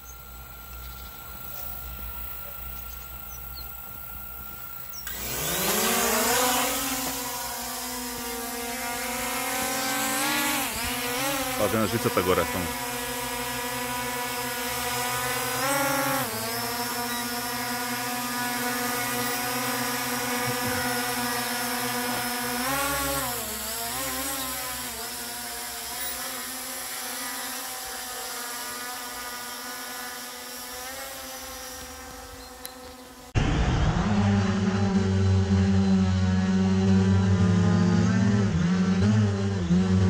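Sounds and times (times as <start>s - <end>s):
drone propellers whining: 0.0s - 40.0s.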